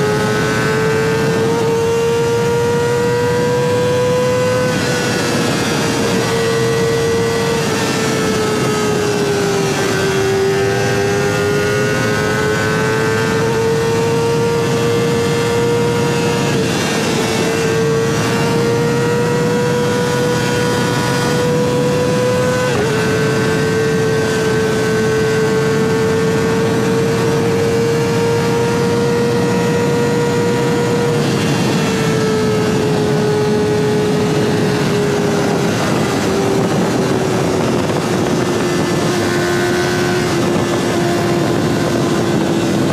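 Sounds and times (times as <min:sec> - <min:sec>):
motorcycle engine revving high: 0:00.0 - 0:42.9.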